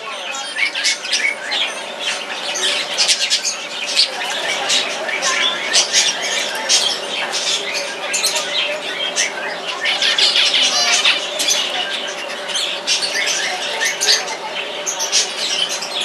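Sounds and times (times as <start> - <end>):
small birds chirping and squawking: 0.0 - 16.0.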